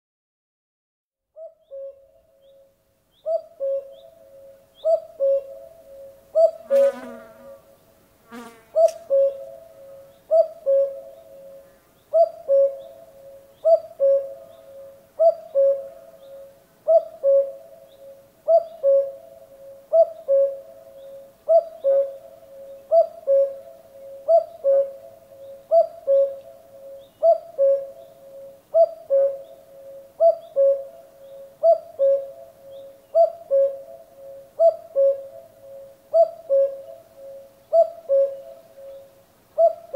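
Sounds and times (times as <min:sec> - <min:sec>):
cuckoo calling: 0:01.4 - 0:07.6, 0:08.7 - 0:39.9.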